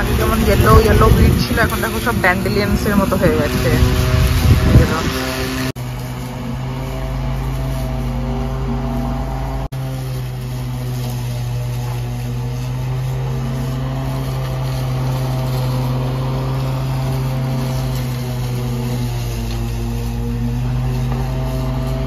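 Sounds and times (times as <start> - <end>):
electric lawn mower running: 0.0 - 22.0.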